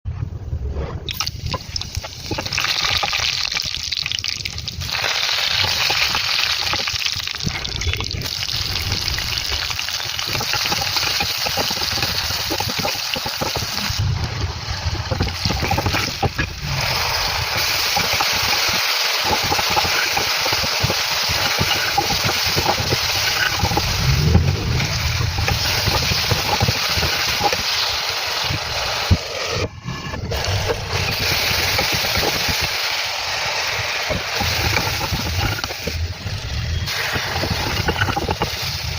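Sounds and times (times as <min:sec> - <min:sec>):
oil and food sizzling: 0:01.1 - 0:38.9.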